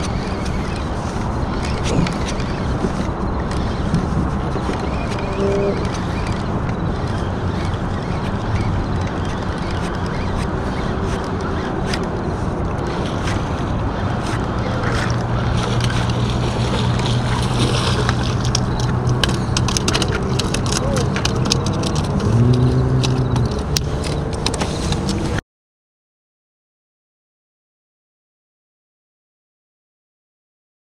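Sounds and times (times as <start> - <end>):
motorboat engine hum: 0.0 - 25.4
water noise: 0.0 - 25.4
wind: 0.0 - 25.4.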